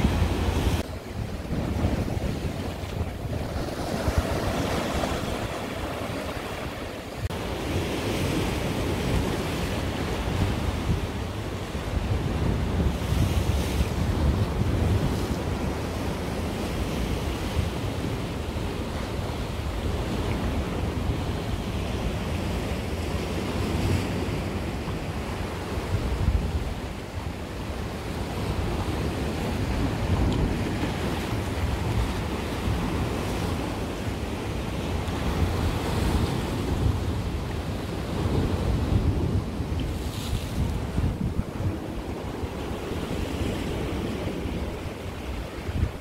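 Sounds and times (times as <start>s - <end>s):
waves breaking on rocks: 0.0s - 46.0s
wind buffeting microphone: 0.0s - 46.0s.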